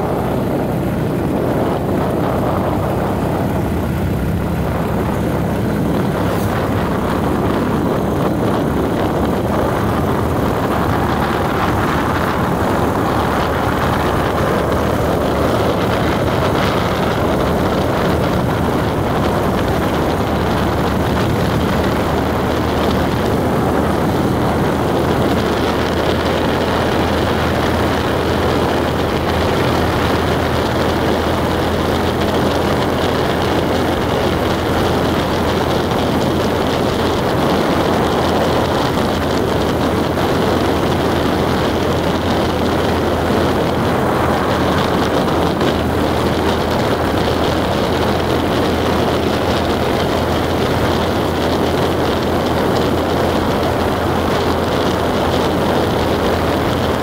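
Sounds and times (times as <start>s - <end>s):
car engine and tyre noise: 0.0s - 57.0s
constant low hum: 0.0s - 57.0s.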